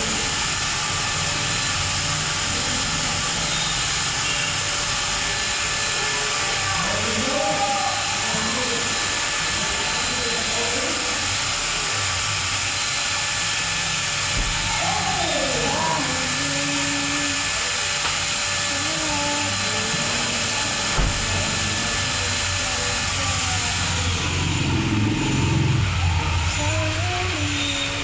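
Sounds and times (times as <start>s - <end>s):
pressure washer spraying: 0.0s - 28.0s.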